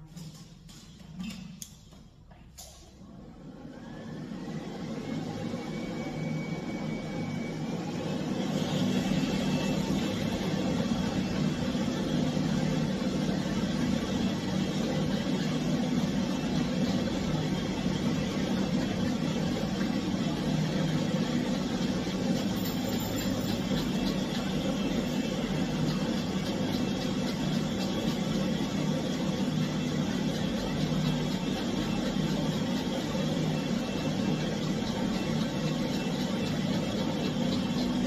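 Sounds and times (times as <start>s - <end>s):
grooming dryer motor whine: 0.0s - 38.0s.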